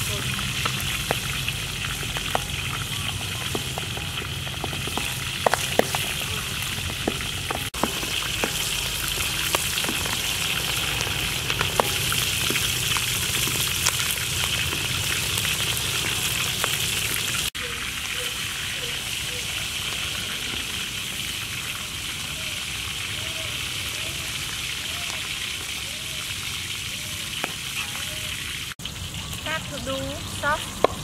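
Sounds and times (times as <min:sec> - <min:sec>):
meat sizzling in hot oil: 0:00.0 - 0:31.0.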